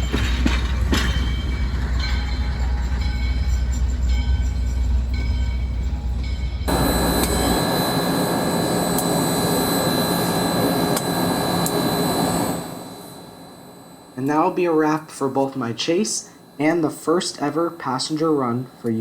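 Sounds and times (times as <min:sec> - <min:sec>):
train rushing by: 0:00.0 - 0:18.5
faint steady tones: 0:00.1 - 0:19.0.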